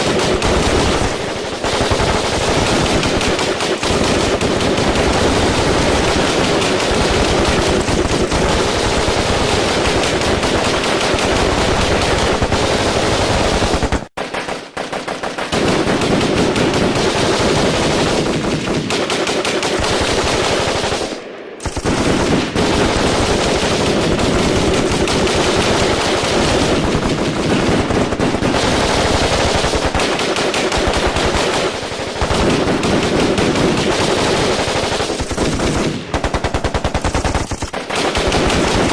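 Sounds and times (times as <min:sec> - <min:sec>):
automatic gunfire: 0:00.0 - 0:38.9.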